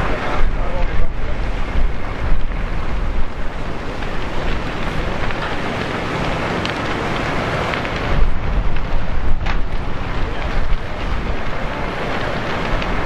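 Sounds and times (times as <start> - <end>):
deep rumble: 0.0 - 13.0
wind buffeting microphone: 0.0 - 13.0.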